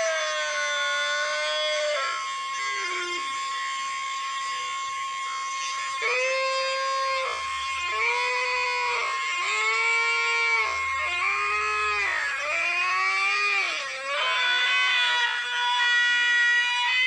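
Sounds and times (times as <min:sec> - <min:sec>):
steady high tone: 0:01.0 - 0:16.2.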